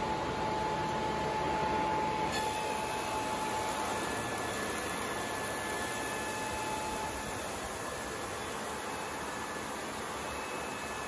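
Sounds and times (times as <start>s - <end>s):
belt sander running with whine: 0.4s - 11.0s.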